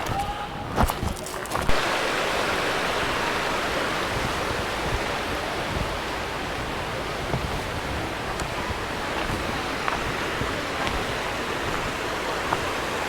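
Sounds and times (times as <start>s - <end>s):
waterfall rushing: 1.7s - 13.0s.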